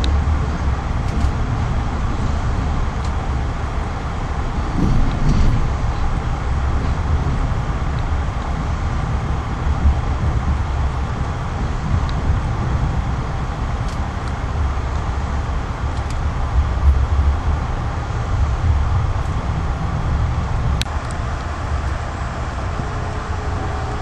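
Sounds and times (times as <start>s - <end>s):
moving vehicle rumble: 0.0s - 24.0s.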